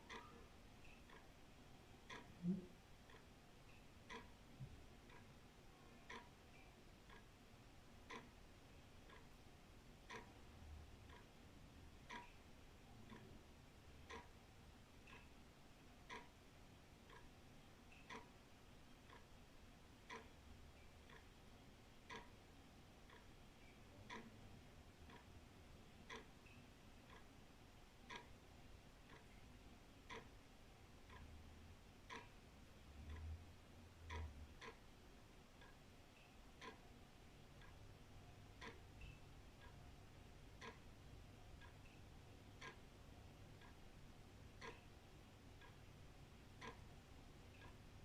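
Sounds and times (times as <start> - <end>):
wall clock ticking: 0.0 - 48.0.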